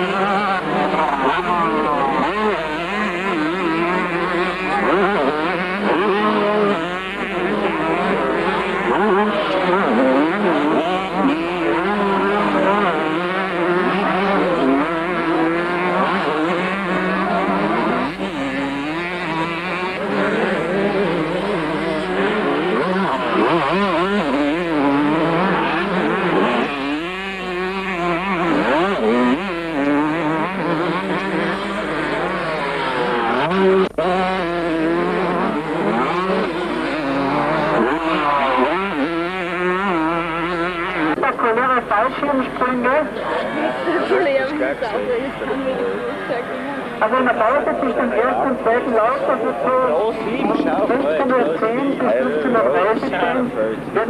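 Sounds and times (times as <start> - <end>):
motocross motorcycle engines racing: 0.0 - 54.0.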